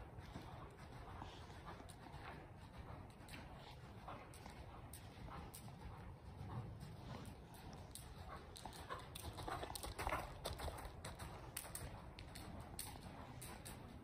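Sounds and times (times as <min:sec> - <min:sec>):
muffled horse hoofbeats: 0:00.0 - 0:14.0.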